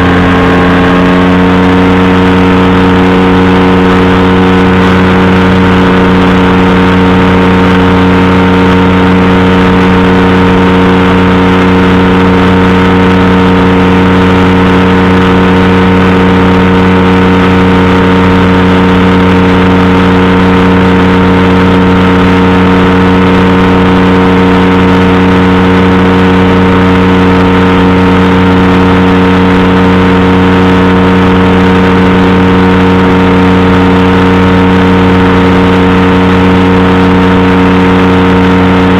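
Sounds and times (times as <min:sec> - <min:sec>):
engine and propeller running: 0:00.0 - 0:38.9.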